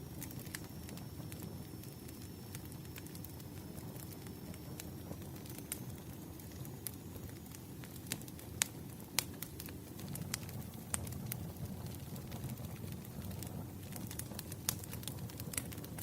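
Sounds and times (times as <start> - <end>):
low rumble of burning logs: 0.0 - 16.0
wood fire crackling: 0.0 - 16.0.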